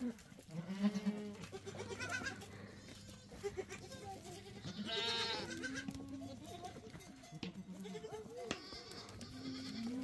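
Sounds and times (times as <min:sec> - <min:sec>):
goats bleating: 0:00.0 - 0:10.0.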